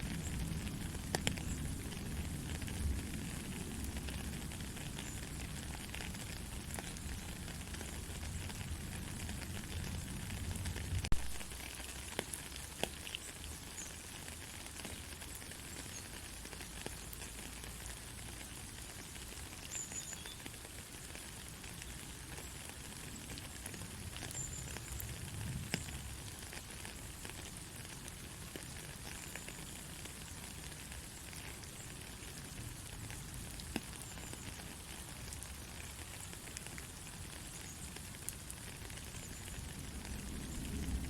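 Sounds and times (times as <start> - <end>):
raindrops ticking: 0.0 - 41.0
soft rain hiss: 0.0 - 41.0.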